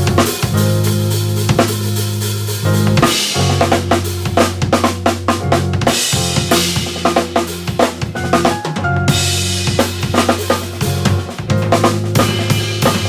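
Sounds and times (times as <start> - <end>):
drum kit playing fast: 0.0 - 13.0
sustained low bass notes: 0.0 - 13.0.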